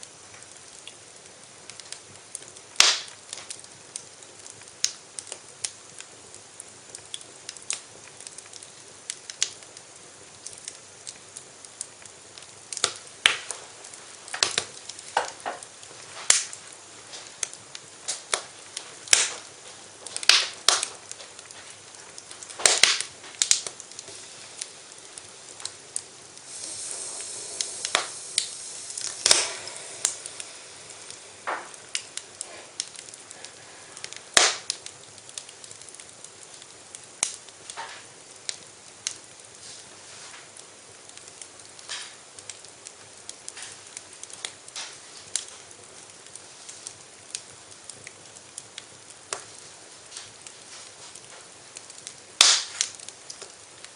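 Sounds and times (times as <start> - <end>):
fire hissing: 0.0 - 53.9
wood fire crackling and popping: 0.0 - 53.9.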